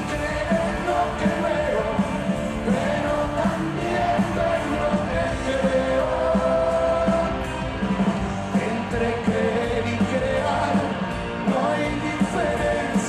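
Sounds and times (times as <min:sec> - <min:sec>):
man singing into microphone: 0:00.0 - 0:07.3, 0:08.5 - 0:13.0
live rock band playing: 0:00.0 - 0:13.0.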